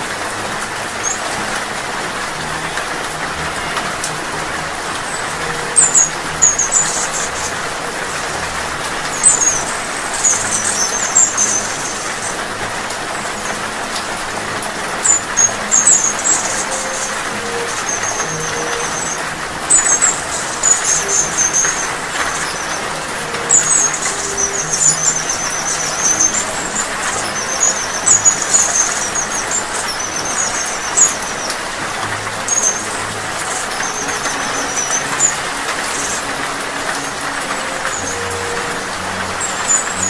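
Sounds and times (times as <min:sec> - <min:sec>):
rain hissing: 0:00.0 - 0:40.0
hummingbird twittering trills: 0:00.2 - 0:40.0.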